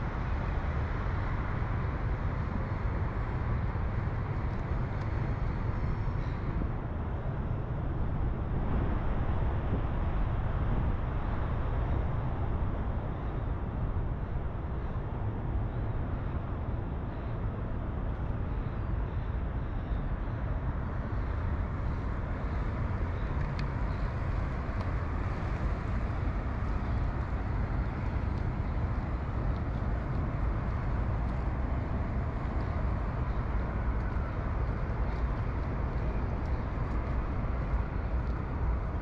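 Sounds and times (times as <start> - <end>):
city background rumble: 0.0 - 39.0.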